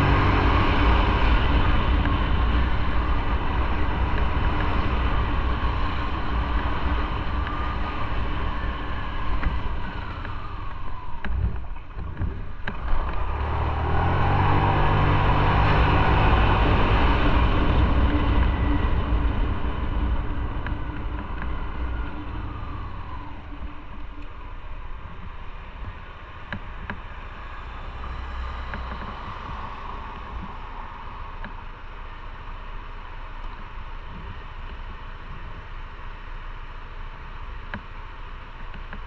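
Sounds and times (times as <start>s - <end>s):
motorcycle engine: 0.0s - 39.0s.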